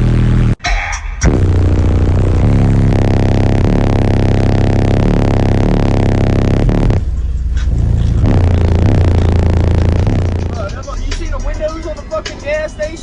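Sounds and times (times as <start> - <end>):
bass-heavy music through subwoofers: 0.0 - 13.0.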